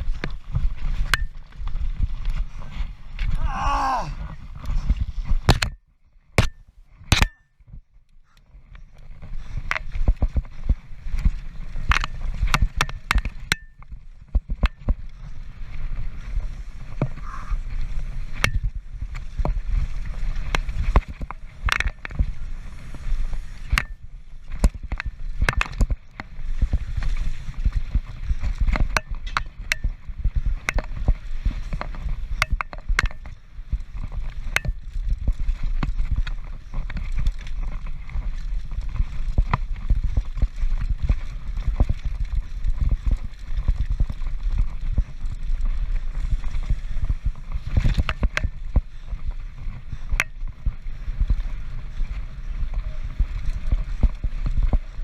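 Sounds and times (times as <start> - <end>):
bike clicks: 0.0 - 5.8, 6.4 - 55.0
bike knocking and rattling: 0.0 - 55.0
bike tyres rumbling on trail: 0.0 - 55.0.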